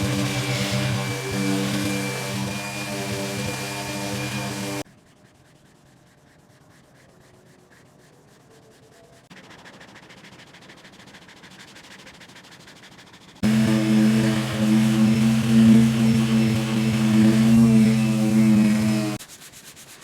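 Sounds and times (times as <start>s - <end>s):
sanding car body panel: 0.0s - 8.4s, 9.3s - 20.0s.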